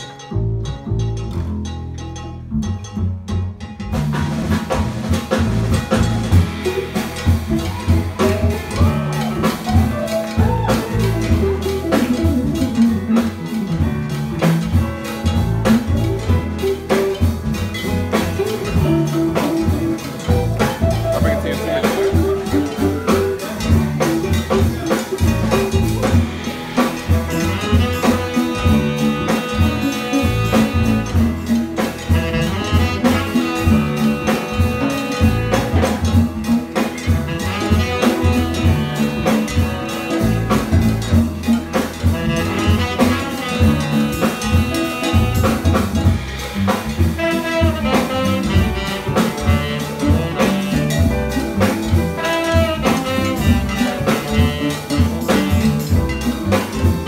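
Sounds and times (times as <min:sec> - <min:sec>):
busy drum and percussion rhythm: 0:00.0 - 0:57.0
jazz band playing: 0:00.0 - 0:57.0
horn lines: 0:04.5 - 0:57.0.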